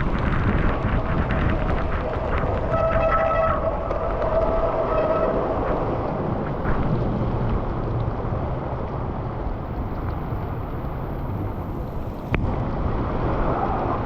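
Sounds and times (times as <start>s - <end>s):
low rumble: 0.0s - 14.0s
wind and rain on microphone: 0.0s - 14.0s.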